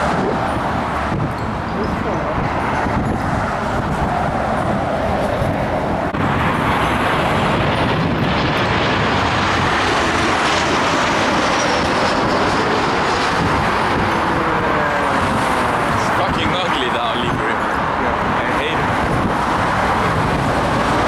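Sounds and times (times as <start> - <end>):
jet engine whine: 0.0 - 21.0
jet engines roaring overhead: 0.0 - 21.0.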